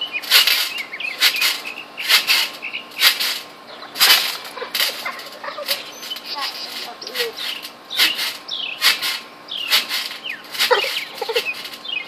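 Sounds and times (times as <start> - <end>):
birds chirping faintly: 0.0 - 12.0
trampoline bouncing: 0.0 - 12.0.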